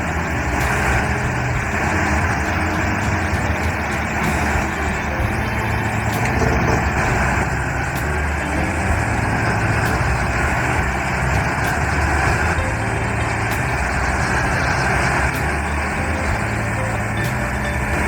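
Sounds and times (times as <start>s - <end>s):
diesel engine drone: 0.0s - 18.0s
wood-processing machine noise: 0.0s - 18.0s.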